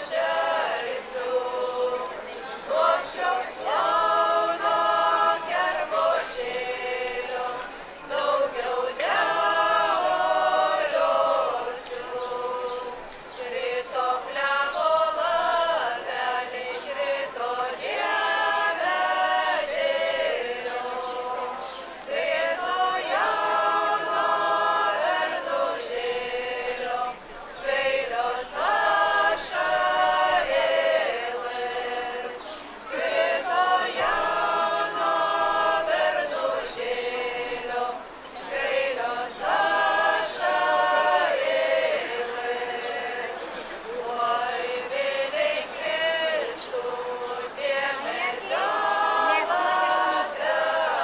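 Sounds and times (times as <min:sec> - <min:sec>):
women singing a cappella: 0:00.0 - 0:51.0.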